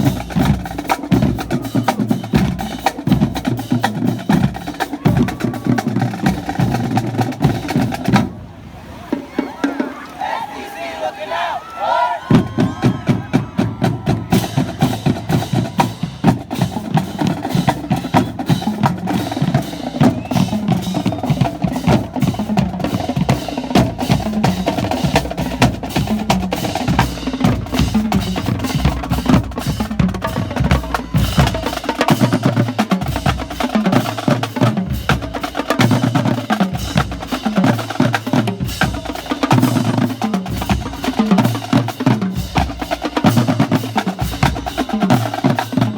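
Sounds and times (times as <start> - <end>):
marching drumline playing: 0.0 - 8.4, 9.1 - 45.9.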